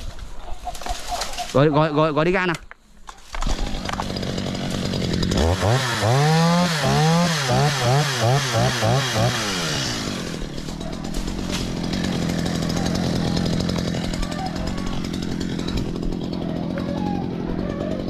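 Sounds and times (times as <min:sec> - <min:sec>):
chainsaw cutting wood: 0:03.4 - 0:18.0.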